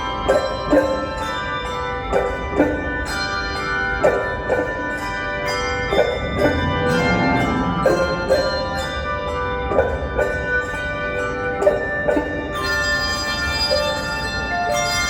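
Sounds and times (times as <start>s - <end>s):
handbell choir playing: 0.0s - 15.0s.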